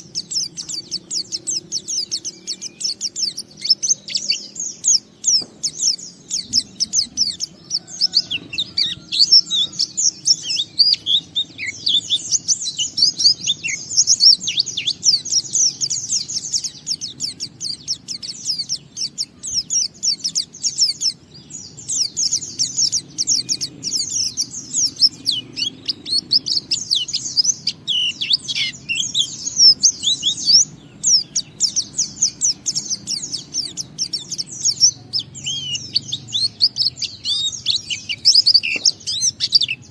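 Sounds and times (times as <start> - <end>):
bird twittering and chirping: 0.0 - 39.9.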